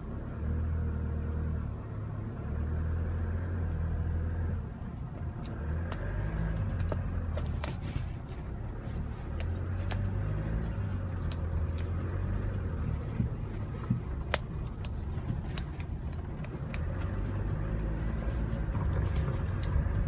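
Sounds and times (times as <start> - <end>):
truck engine and road hum: 0.0 - 20.0.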